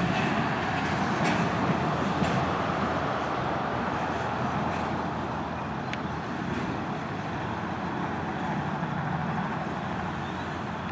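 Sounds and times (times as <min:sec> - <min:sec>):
freight train rolling on rails: 0:00.0 - 0:10.9.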